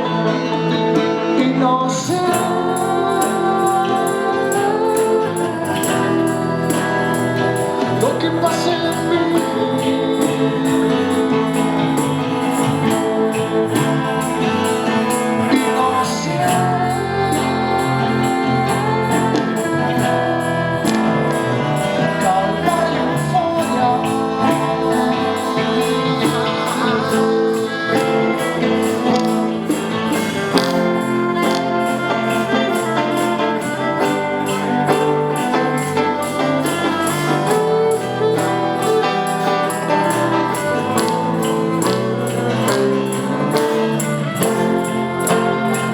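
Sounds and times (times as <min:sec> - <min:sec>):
live rock band music: 0:00.0 - 0:45.9
viola: 0:00.0 - 0:45.9.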